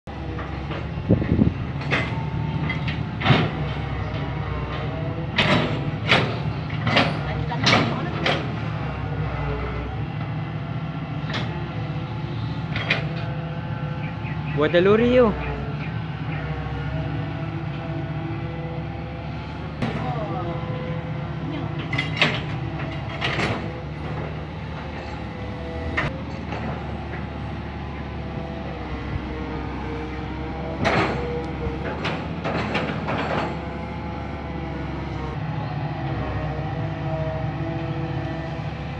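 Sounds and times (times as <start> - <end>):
excavator diesel engine running: 0.1 - 38.9
metallic clanks and squeals: 0.2 - 10.3, 11.2 - 18.6, 19.4 - 27.5, 29.0 - 35.4.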